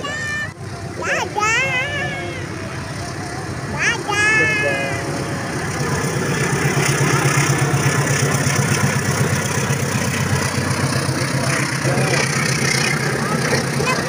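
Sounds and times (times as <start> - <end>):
diesel locomotive passing: 0.0 - 14.0.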